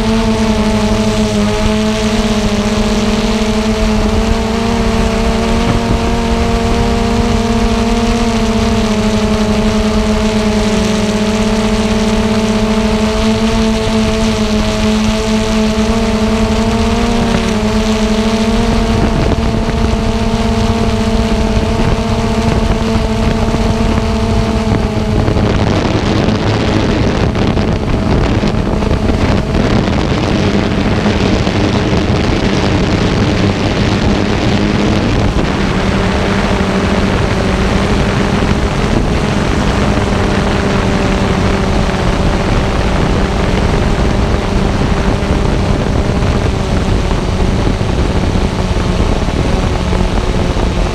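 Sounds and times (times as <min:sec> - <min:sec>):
drone propellers buzzing: 0:00.0 - 0:50.9
wind noise on microphone: 0:00.0 - 0:50.9.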